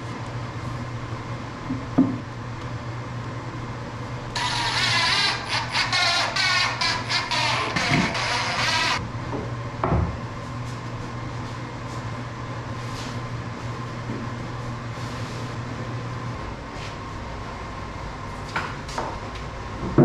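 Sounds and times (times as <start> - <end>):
low shop hum: 0.0 - 20.0.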